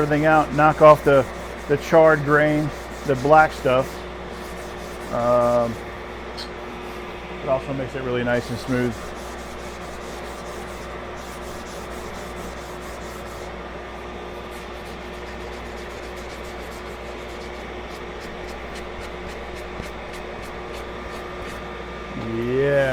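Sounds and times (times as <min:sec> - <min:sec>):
sanding sponge rubbing wood: 0:00.0 - 0:05.9, 0:08.3 - 0:13.5, 0:14.3 - 0:21.6
steady hum: 0:00.0 - 0:22.9.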